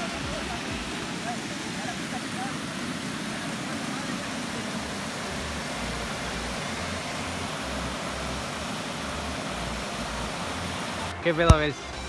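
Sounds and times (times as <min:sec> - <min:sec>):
low water rumble: 0:00.0 - 0:11.7
water rushing over weir: 0:00.0 - 0:11.7.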